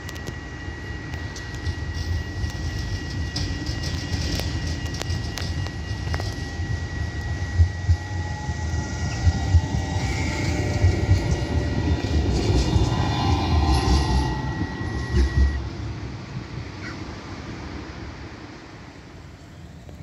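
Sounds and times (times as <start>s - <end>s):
high whine: 0.0s - 20.0s
tram rumbling on rails: 0.0s - 20.0s.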